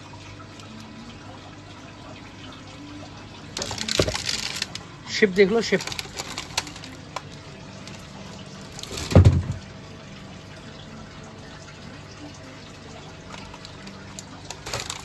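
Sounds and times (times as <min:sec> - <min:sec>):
water trickling and bubbling: 0:00.0 - 0:15.0.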